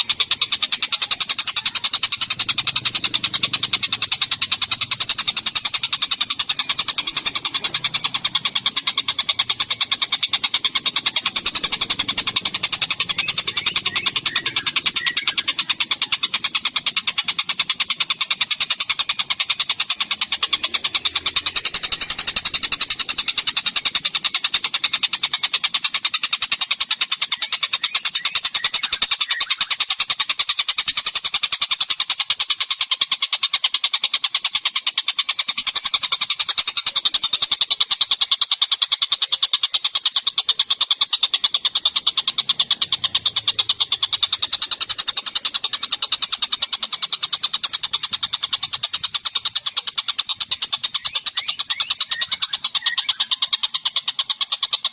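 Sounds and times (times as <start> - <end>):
songbird chattering trill: 0.0 - 54.9.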